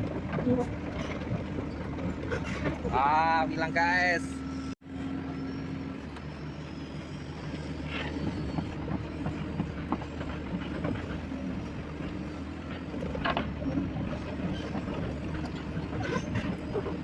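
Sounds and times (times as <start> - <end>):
crawler tracks clanking: 0.0 - 4.8, 5.6 - 17.0
excavator engine running: 0.0 - 17.0.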